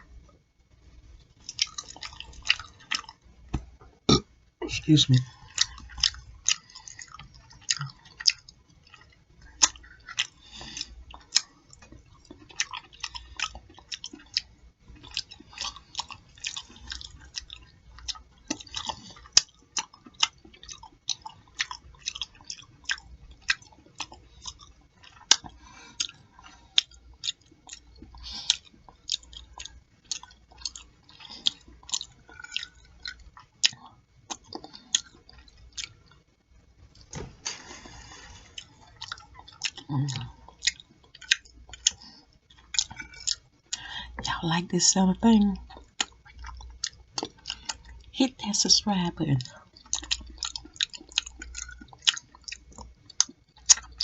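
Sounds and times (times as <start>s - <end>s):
person chewing and smacking: 0.1s - 4.3s, 5.0s - 44.6s, 45.4s - 48.2s, 49.4s - 54.0s.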